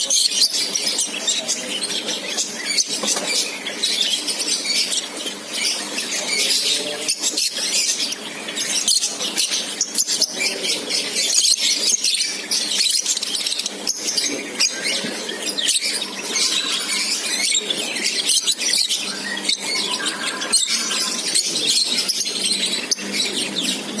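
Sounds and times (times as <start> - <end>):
flock of lovebirds chattering: 0.0 - 24.0.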